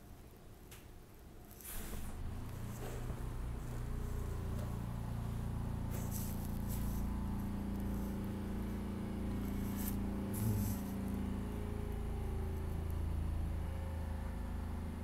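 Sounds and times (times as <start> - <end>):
low electric hum: 0.0 - 15.0.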